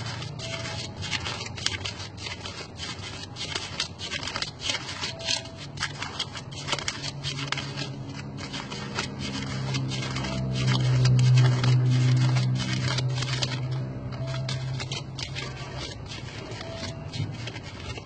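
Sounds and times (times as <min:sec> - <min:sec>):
banknotes flicked by hand: 0:00.0 - 0:18.0.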